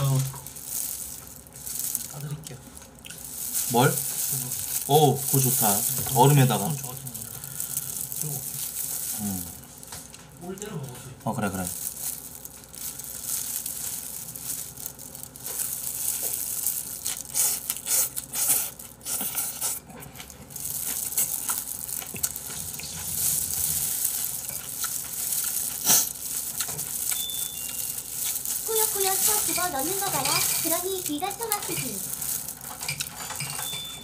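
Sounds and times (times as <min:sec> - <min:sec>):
wet chewing: 0:00.0 - 0:10.3, 0:11.8 - 0:34.0
plastic gloves crackling: 0:00.0 - 0:34.0.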